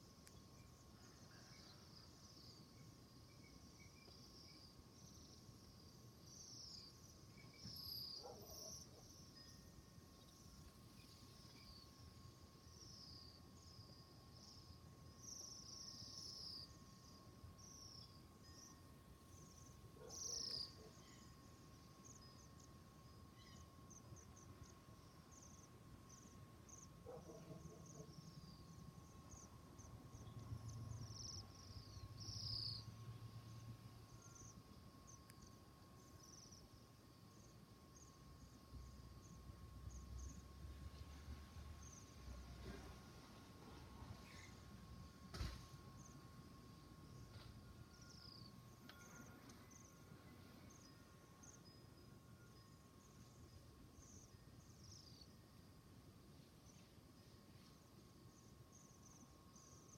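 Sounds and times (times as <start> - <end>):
faint steady tone: 0.0 - 59.9.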